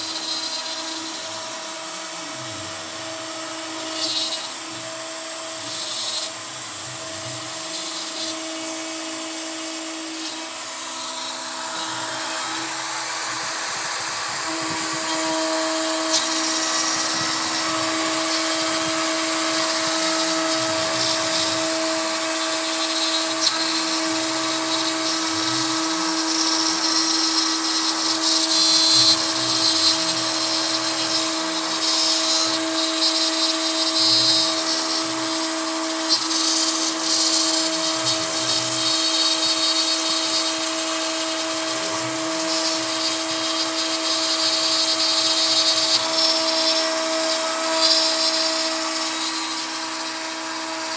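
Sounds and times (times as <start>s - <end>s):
end mill cutting wood: 0.0s - 50.9s
router spindle whining: 0.0s - 50.9s.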